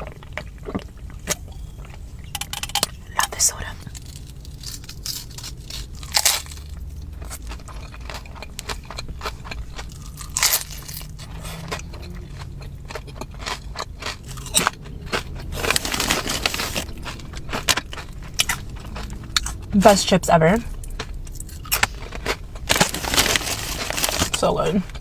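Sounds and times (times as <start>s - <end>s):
person chewing crisp chips: 0.0s - 20.0s, 20.7s - 25.0s.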